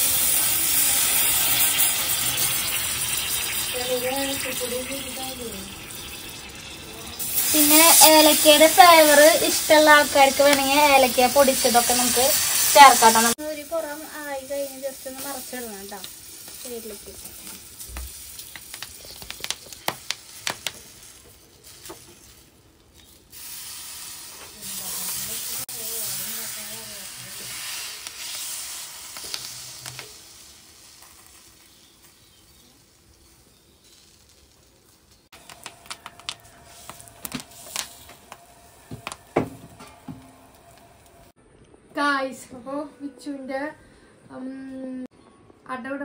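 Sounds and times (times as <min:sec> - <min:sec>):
faint sizzling: 0:00.0 - 0:41.4.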